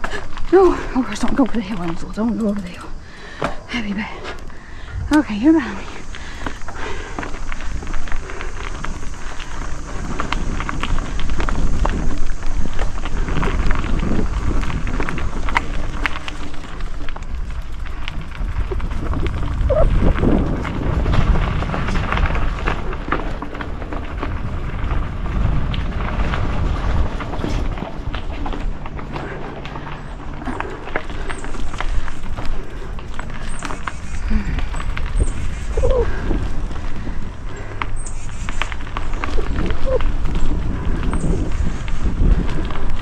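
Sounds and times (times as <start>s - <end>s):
bike rattles and clicks: 0.0s - 43.0s
bike tyres on dirt and rocks: 0.0s - 43.0s
steady low rumble: 0.0s - 43.0s.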